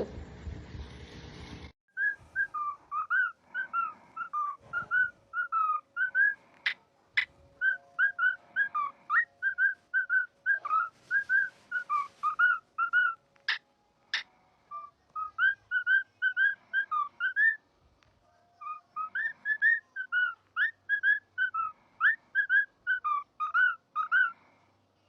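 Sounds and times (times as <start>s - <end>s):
parrot whistling chirpy notes: 2.0s - 6.4s, 7.2s - 13.6s, 14.2s - 17.6s, 18.6s - 24.4s.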